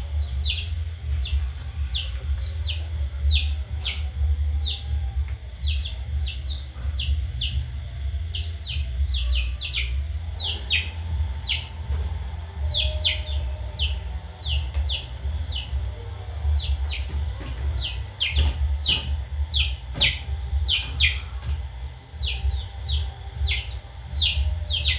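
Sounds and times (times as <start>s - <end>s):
baby bird peeping: 0.0s - 24.9s
steady low rumble: 0.0s - 24.9s.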